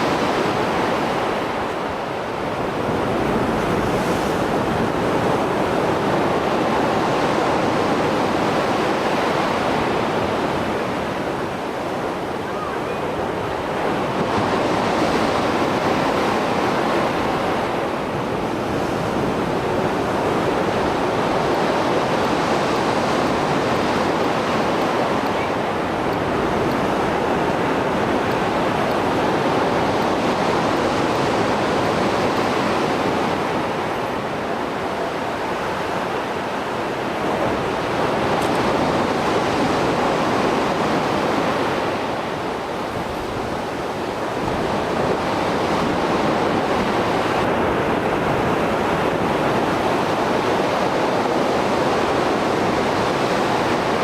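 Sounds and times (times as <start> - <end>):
waves breaking and washing ashore: 0.0 - 54.0.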